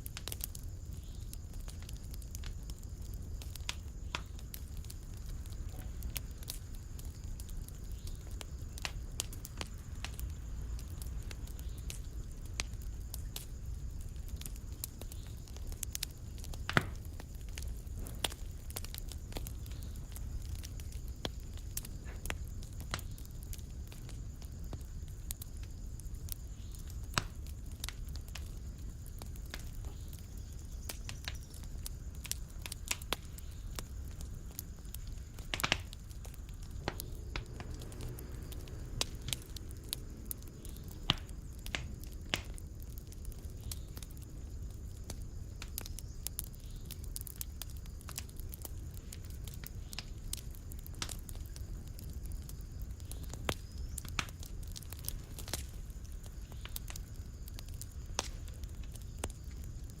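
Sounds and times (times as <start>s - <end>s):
low rumble of flames: 0.0s - 60.0s
wood fire crackling and popping: 0.0s - 60.0s.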